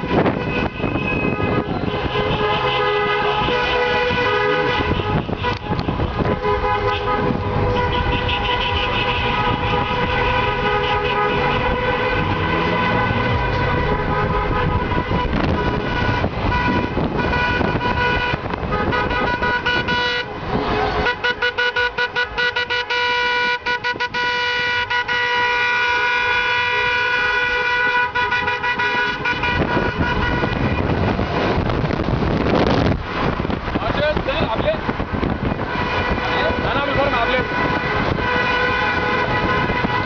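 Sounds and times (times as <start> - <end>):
car engine and road noise: 0.0 - 40.0
car horns honking: 0.0 - 40.0.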